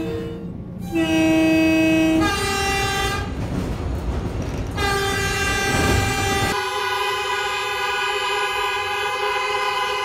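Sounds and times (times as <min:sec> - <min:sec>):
higher-pitched train horn blasts: 0:00.0 - 0:03.3, 0:04.8 - 0:10.0
train horn blast: 0:00.0 - 0:03.4, 0:04.8 - 0:10.0
train rumbling: 0:00.0 - 0:10.0.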